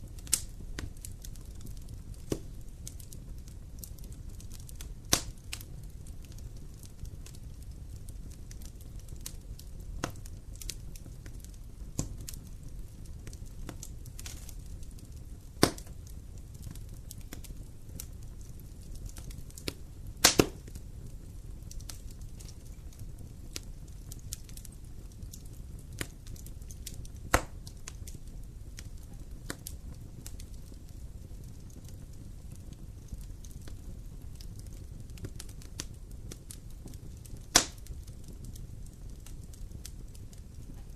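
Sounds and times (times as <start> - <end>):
low steady fire rumble: 0.0 - 40.9
wood crackling in campfire: 0.0 - 40.9
sharp fire pops: 0.1 - 40.9.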